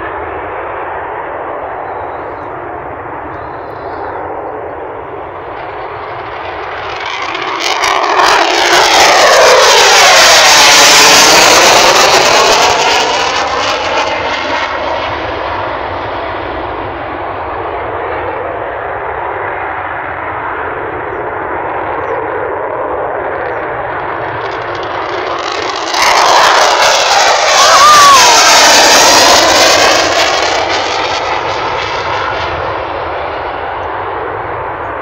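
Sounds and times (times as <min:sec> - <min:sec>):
distant jet rumble: 0:00.0 - 0:35.0
jet engine roar: 0:00.0 - 0:35.0.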